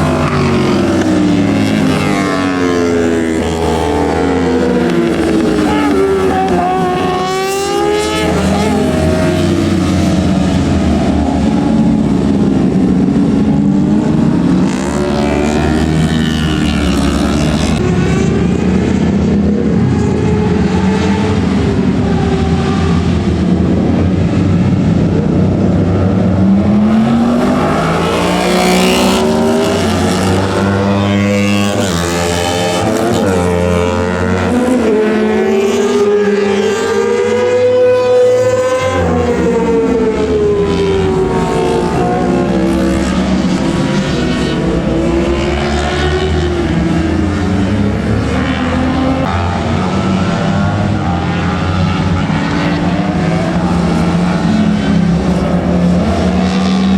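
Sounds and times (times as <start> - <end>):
racing motorcycle engines: 0.0 - 56.9.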